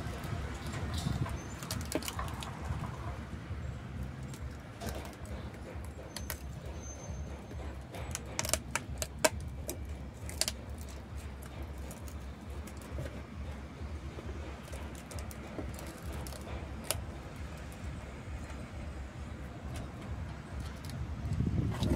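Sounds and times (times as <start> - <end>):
fingers scraping soil in metal can: 0.0 - 18.6.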